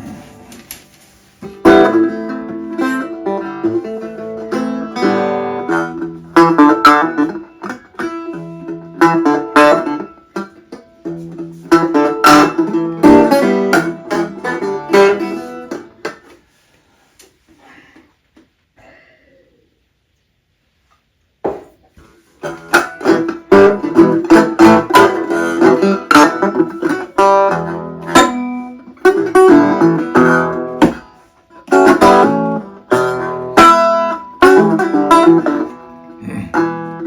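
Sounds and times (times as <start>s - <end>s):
resonator guitar playing: 0.0s - 16.3s, 22.4s - 37.0s.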